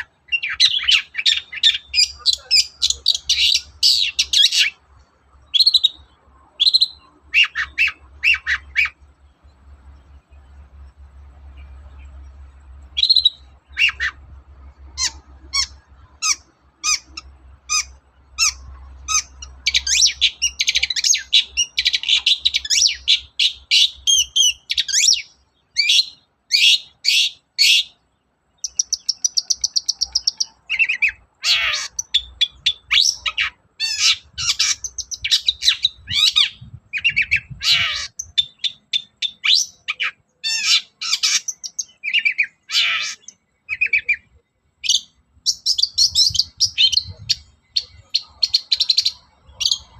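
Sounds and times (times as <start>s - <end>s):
rapid bird trill: 0.0s - 49.9s.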